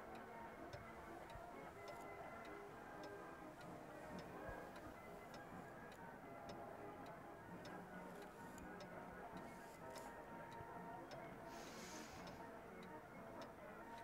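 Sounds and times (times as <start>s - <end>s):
clock ticking: 0.0s - 14.0s
soft music: 0.0s - 14.0s.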